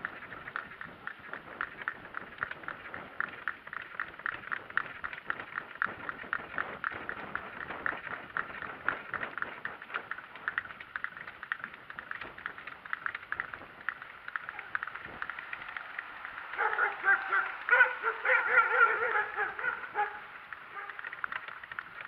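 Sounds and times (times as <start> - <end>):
cart rattling: 0.0 - 22.0
donkey hooves clopping: 0.0 - 22.0.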